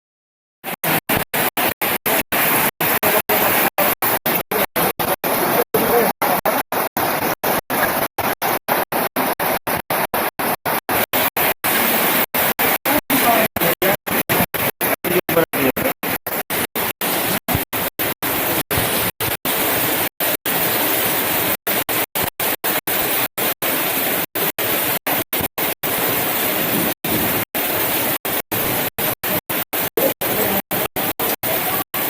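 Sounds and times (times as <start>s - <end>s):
heavy rain with hail: 0.9s - 17.6s, 18.2s - 32.0s.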